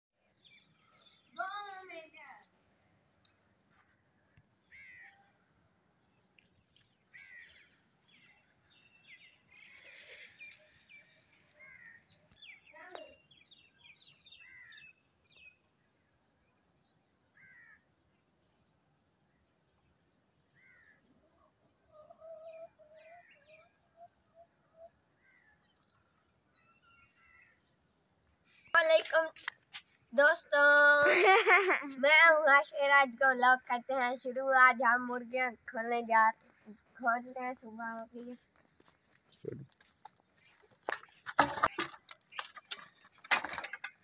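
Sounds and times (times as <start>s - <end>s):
faint birds chirping: 0.2s - 44.0s.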